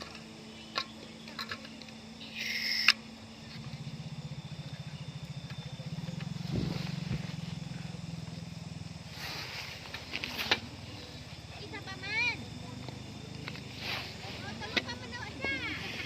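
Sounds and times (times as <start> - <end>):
small engine passing by: 2.3 - 16.0.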